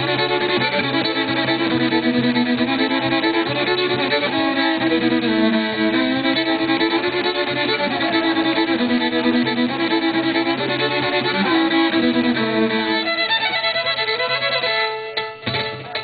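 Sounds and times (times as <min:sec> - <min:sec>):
fiddle playing long notes: 0:00.0 - 0:16.0.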